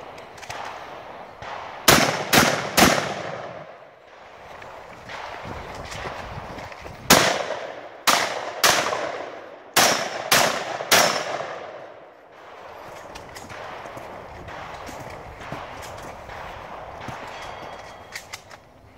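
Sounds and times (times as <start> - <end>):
gunshots: 0.0 - 18.5.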